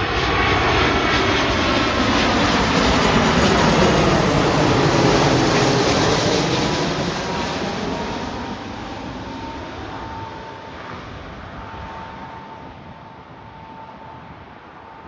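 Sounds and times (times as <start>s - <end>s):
jet airliner roaring past: 0.0s - 15.0s.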